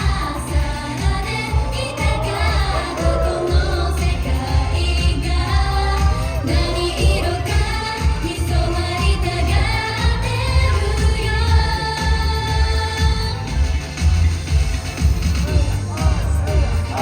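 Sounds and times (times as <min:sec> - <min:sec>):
person singing: 0:00.0 - 0:13.6, 0:15.4 - 0:17.0
pop music with pulsing bass: 0:00.0 - 0:17.0.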